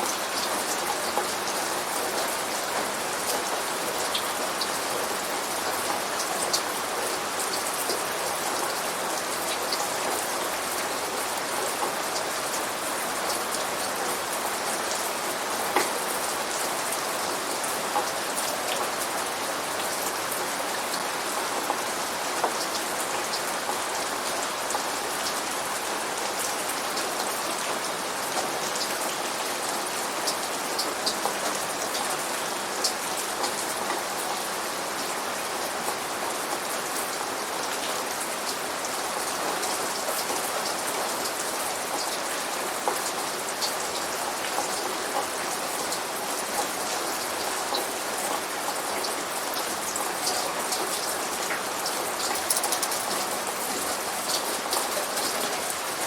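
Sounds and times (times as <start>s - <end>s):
steady rain falling: 0.0s - 56.0s
sharp drips and patters: 0.1s - 56.0s.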